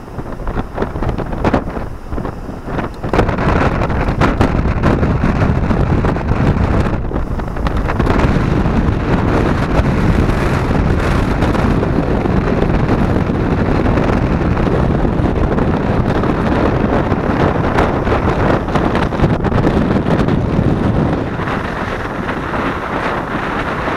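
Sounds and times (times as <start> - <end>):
strong wind buffeting microphone: 0.0 - 23.9
surf washing up beach: 0.0 - 23.9.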